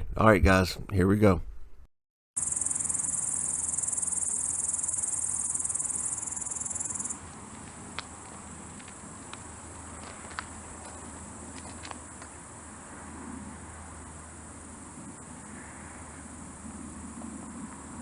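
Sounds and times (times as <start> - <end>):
crickets trilling: 2.4 - 18.0.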